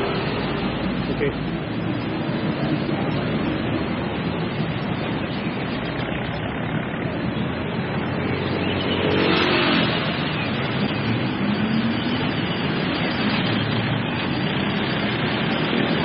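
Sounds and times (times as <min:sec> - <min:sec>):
cars and scooters driving past: 0:00.0 - 0:16.0.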